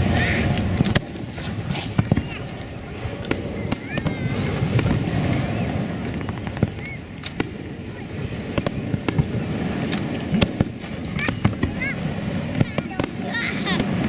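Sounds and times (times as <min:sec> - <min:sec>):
firework bangs and crackles: 0:00.0 - 0:14.0
steady background noise: 0:00.0 - 0:14.0.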